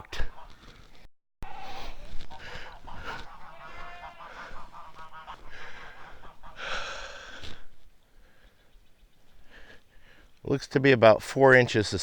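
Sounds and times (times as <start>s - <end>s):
geese honking: 0.0s - 10.3s.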